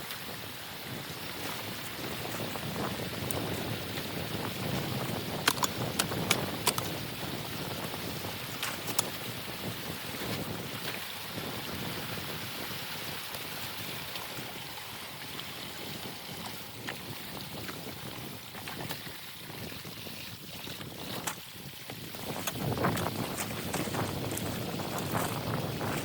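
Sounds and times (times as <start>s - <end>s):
water rushing: 0.0s - 26.0s.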